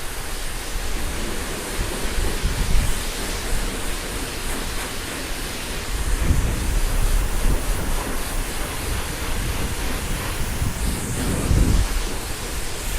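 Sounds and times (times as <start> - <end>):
pressure spray wand hissing: 0.0 - 12.9
wind buffeting microphone: 0.2 - 12.9.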